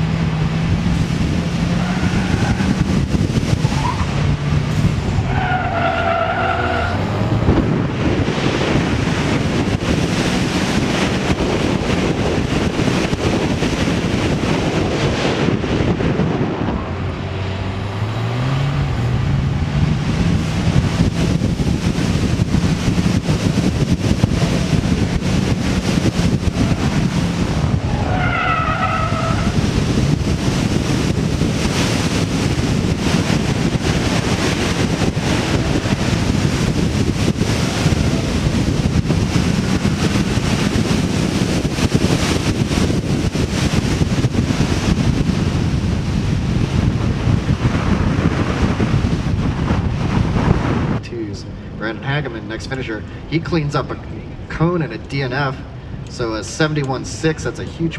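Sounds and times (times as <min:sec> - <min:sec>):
car engine running hard: 0:00.0 - 0:57.9
tyre and wind noise: 0:00.0 - 0:57.9.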